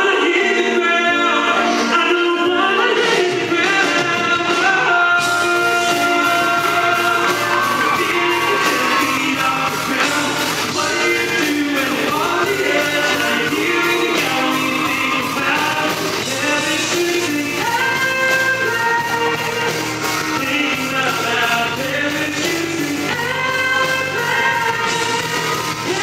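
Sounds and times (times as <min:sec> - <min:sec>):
full band playing: 0:00.0 - 0:26.0
man singing into microphone: 0:00.0 - 0:26.0.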